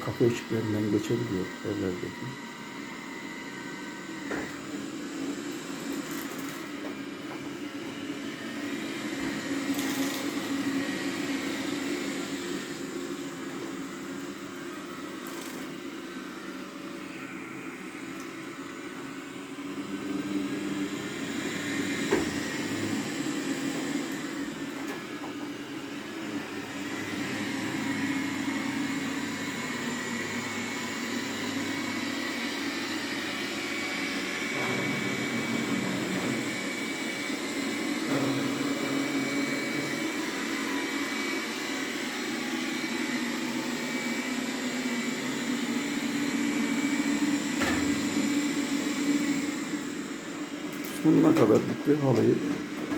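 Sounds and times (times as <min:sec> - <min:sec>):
robot vacuum droning on carpet: 0:00.0 - 0:52.9.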